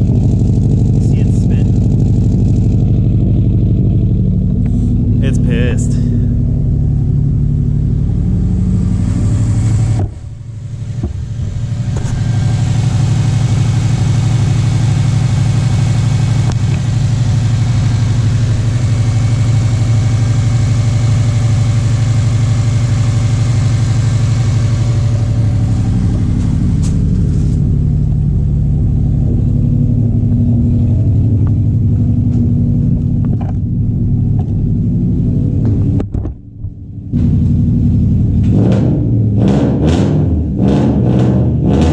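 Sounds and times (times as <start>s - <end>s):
misfiring car engine revving: 0.0s - 41.9s.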